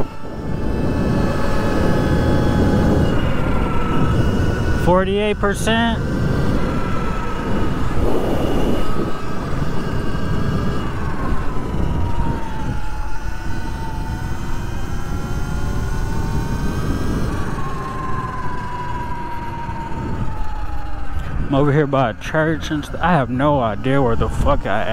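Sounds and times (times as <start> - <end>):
electric motorbike motor whining: 0.0 - 24.9
tyres rumbling on asphalt: 0.0 - 24.9
wind noise: 0.0 - 24.9.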